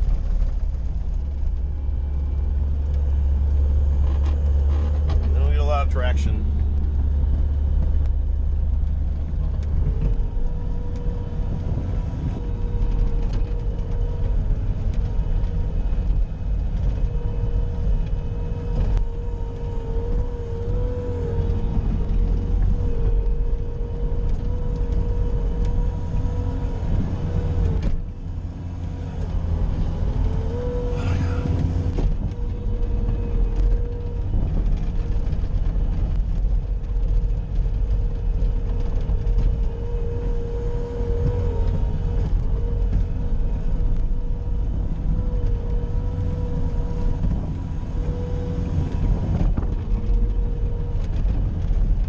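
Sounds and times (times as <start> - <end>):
loader engine rumble: 0.0 - 52.0
steady whine: 0.0 - 52.0.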